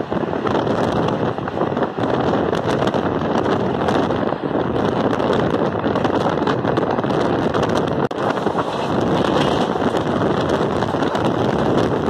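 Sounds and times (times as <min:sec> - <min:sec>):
train rumbling and rattling: 0:00.0 - 0:12.0
wind buffeting microphone: 0:00.0 - 0:12.0.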